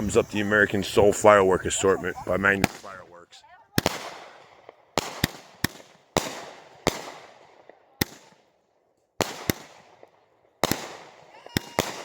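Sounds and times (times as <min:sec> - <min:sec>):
fireworks bangs: 0:00.0 - 0:08.4, 0:09.2 - 0:12.0.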